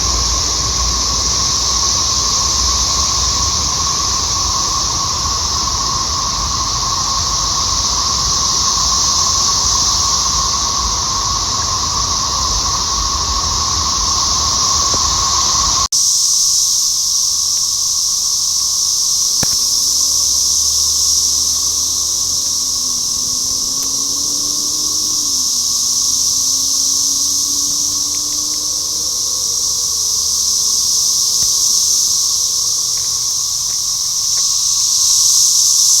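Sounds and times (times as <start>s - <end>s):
cicadas high whine: 0.0s - 36.0s.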